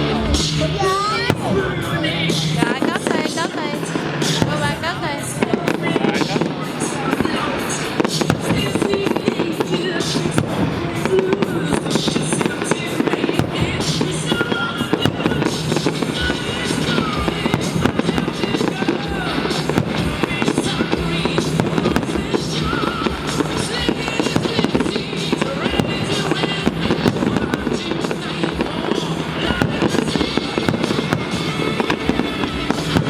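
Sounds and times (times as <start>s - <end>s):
fireworks bangs and crackles: 0.0s - 33.0s
music playing: 0.0s - 33.0s.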